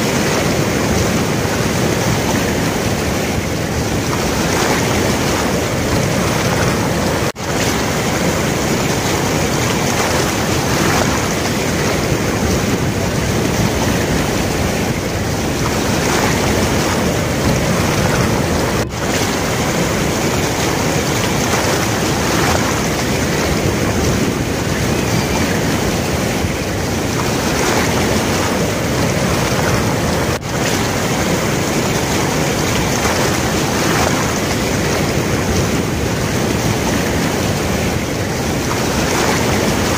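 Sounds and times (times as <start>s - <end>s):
floodwater rushing: 0.0s - 39.9s
wind buffeting microphone: 0.0s - 39.9s.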